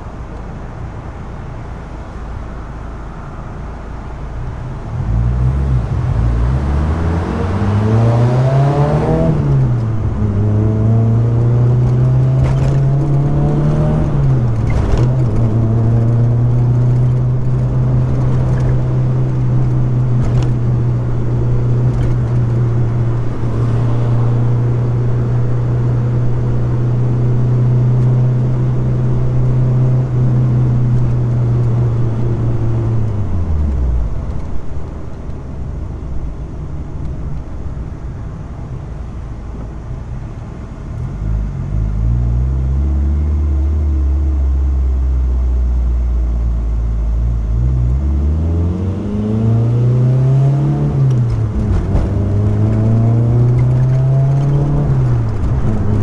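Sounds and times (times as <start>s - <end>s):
car engine accelerating: 4.7s - 56.0s.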